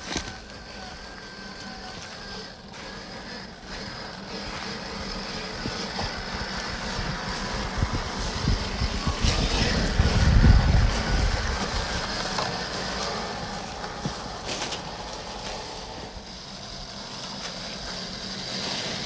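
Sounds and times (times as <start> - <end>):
toy car motor running: 0.0 - 19.0
tyres crackling over rough ground: 0.0 - 19.0.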